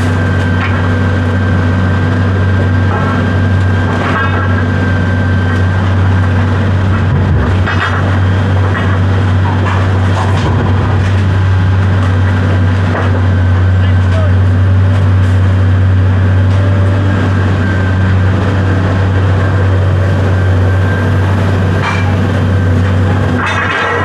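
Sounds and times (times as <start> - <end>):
engine low drone: 0.0 - 24.0.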